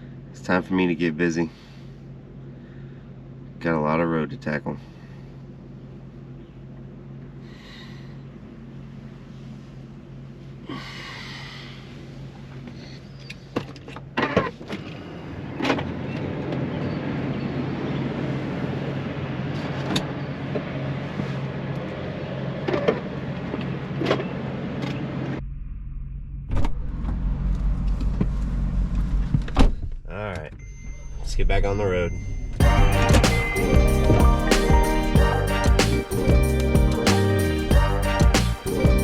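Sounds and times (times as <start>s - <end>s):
van engine running: 0.0s - 39.0s.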